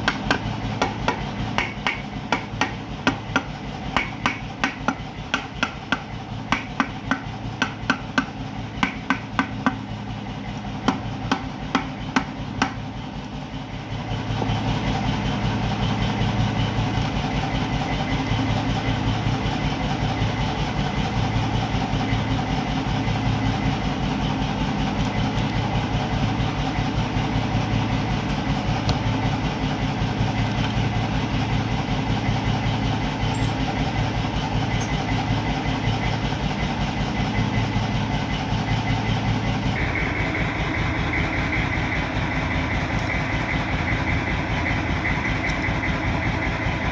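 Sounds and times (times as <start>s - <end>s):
low engine-like hum: 0.0s - 46.9s
pulsing engine-like drone: 0.0s - 46.9s.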